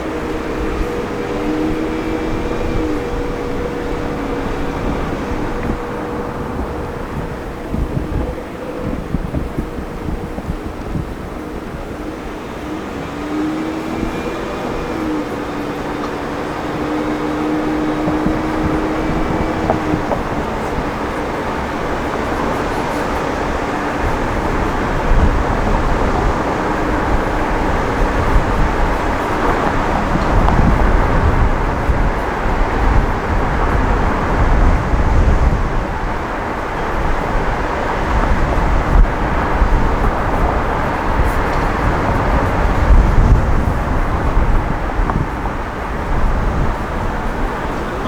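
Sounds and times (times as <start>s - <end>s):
road and traffic noise: 0.0s - 48.0s
wind buffeting microphone: 0.0s - 48.0s.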